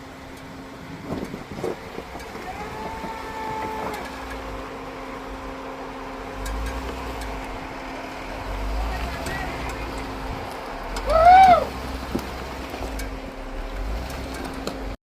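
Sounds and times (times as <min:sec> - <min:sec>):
deep rumble: 0:00.0 - 0:15.0
off-road vehicle engine running: 0:00.0 - 0:15.0.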